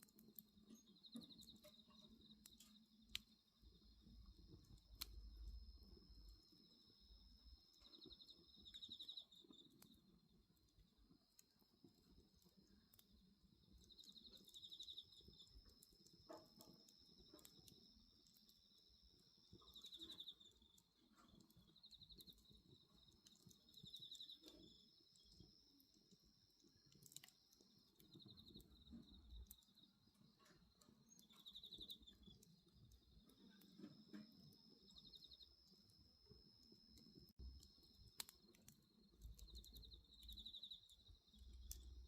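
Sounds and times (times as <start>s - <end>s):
wood fire crackling: 0.0s - 42.0s
night insects trilling: 0.3s - 42.0s.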